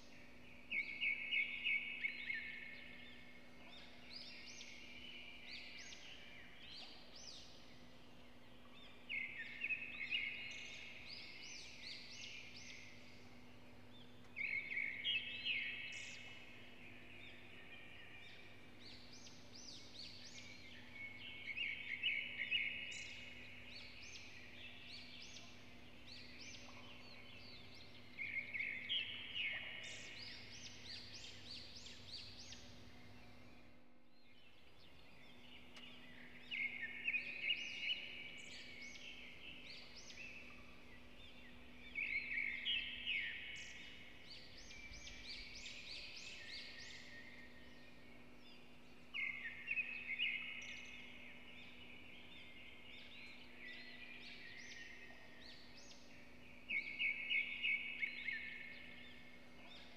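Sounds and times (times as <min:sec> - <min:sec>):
songbird chirping: 0:00.0 - 0:59.9
steady low hum: 0:00.0 - 0:59.9.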